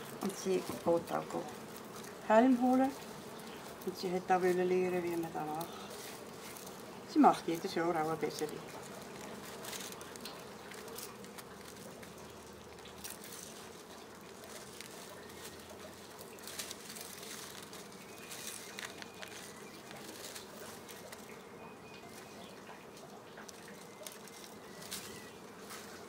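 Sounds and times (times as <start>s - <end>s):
dry grass stalks rustling: 0.0s - 26.0s.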